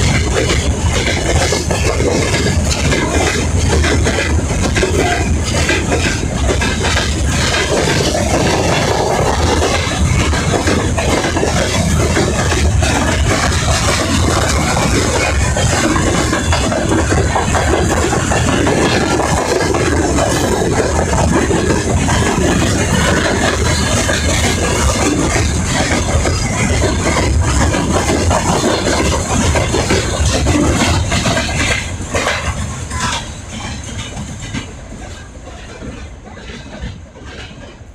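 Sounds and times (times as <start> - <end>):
train wheels clacking on rails: 0.0 - 37.9.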